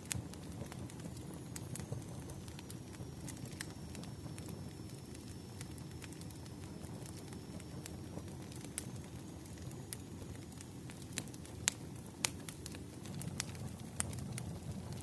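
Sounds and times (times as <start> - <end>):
fire popping: 0.0 - 15.0
low rumble of burning logs: 0.0 - 15.0.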